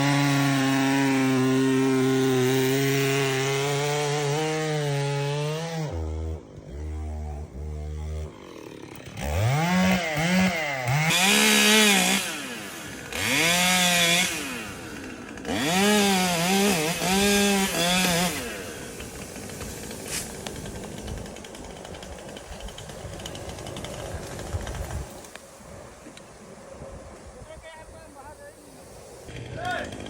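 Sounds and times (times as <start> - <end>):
chainsaw revving: 0.0 - 25.1, 29.3 - 30.0.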